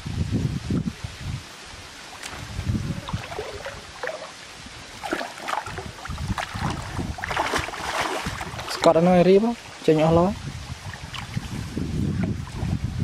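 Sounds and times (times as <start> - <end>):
water sloshing and splashing: 2.0 - 10.1, 10.7 - 13.0.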